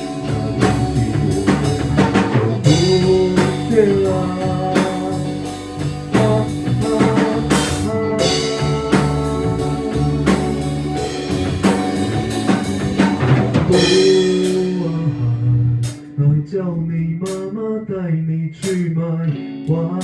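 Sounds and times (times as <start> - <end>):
drum kit beat: 0.0 - 16.2, 17.3 - 17.5
bass and guitar notes: 0.0 - 20.0.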